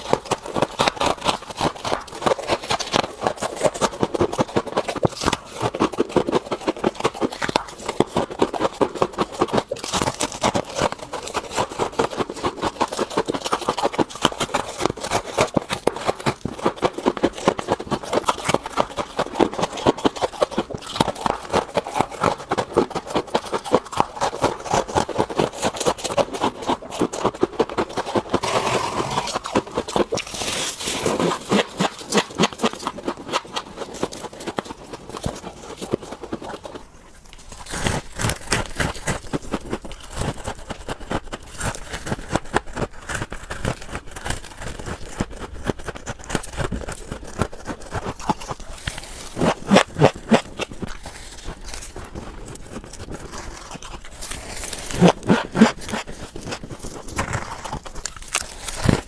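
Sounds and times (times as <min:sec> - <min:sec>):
chewing crunchy frost: 0:00.0 - 0:59.0.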